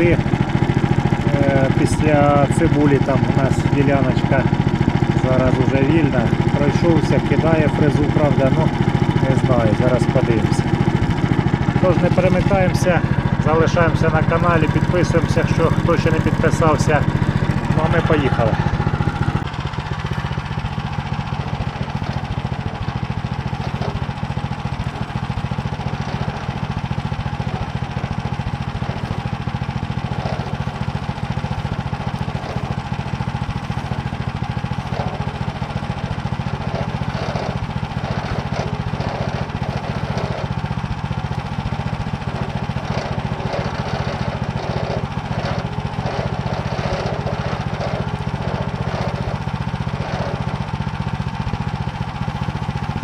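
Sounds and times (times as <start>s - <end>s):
tiller engine running under load: 0.0s - 53.0s.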